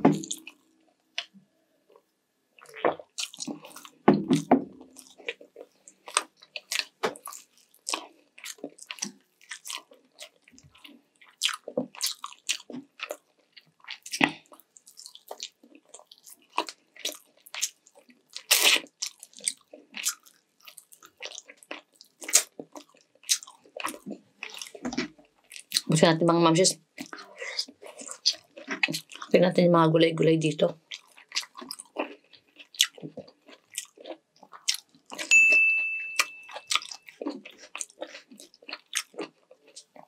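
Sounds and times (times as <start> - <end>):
close chewing and biting: 0.0 - 2.0, 2.6 - 26.0, 26.8 - 29.4, 30.8 - 35.3, 36.4 - 40.0.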